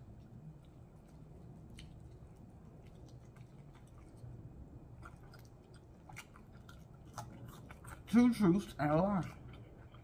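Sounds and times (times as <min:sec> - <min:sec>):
chewing crispy chicken: 0:00.0 - 0:10.0.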